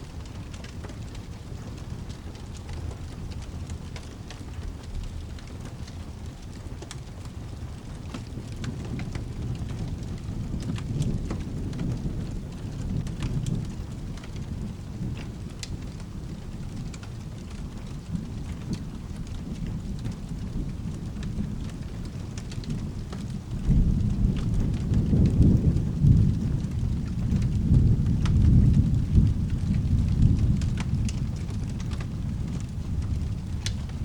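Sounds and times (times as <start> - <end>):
low thunder rumble: 0.0 - 34.0
steady rain: 0.0 - 34.0.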